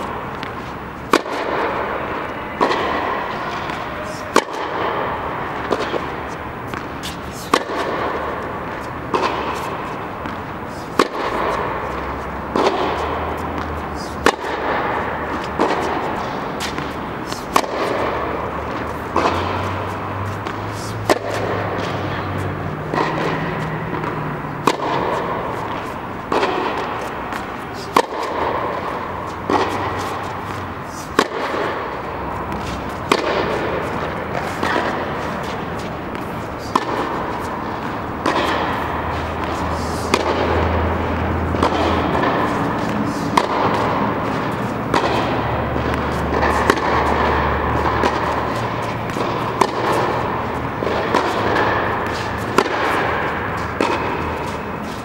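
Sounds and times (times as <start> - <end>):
racket hitting tennis ball: 0.0 - 55.0
steady background hiss: 0.0 - 55.0.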